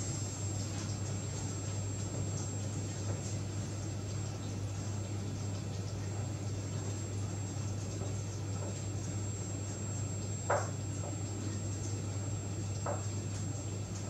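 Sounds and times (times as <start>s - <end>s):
gas hob humming and hissing: 0.0s - 14.0s.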